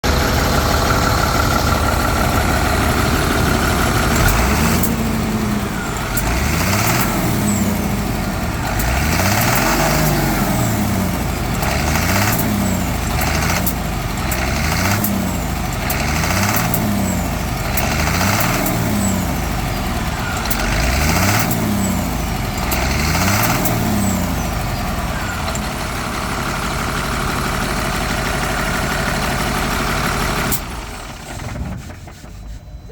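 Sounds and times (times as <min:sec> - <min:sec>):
engine knocking: 0:00.0 - 0:32.9
truck engine idling and revving: 0:00.0 - 0:32.9.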